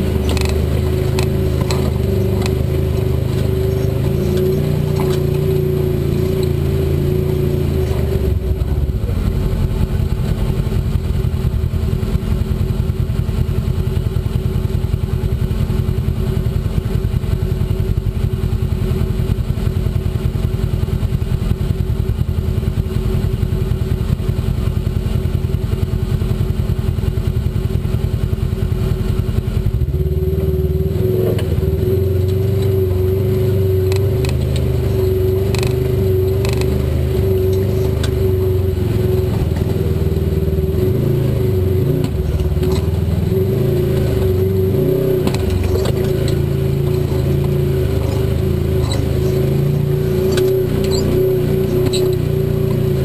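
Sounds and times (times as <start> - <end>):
utility vehicle engine running: 0.0 - 53.0.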